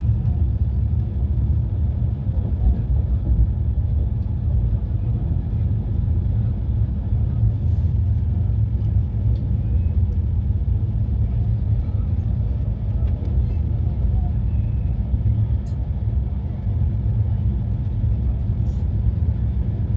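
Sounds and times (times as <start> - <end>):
train rumbling: 0.0 - 19.9.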